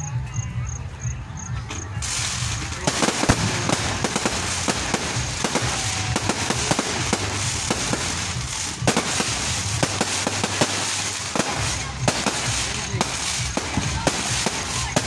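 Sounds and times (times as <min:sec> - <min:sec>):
fireworks bangs and crackles: 0:01.6 - 0:15.0.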